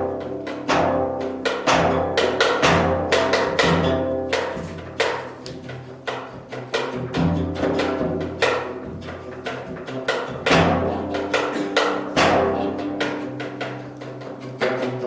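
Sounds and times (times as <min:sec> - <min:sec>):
plucked zither notes: 0:00.0 - 0:15.0.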